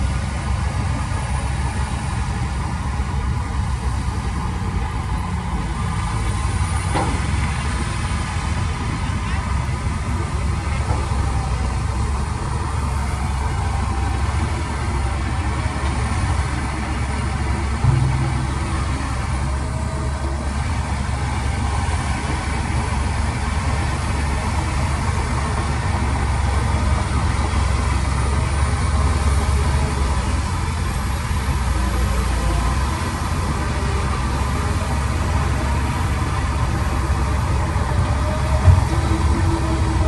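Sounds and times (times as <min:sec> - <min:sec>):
heavy diesel engine rumbling: 0:00.0 - 0:40.0.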